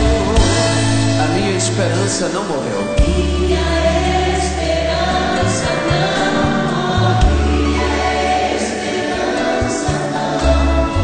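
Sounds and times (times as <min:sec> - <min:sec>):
choir singing gospel: 0:00.0 - 0:11.0
held bass notes: 0:00.0 - 0:11.0.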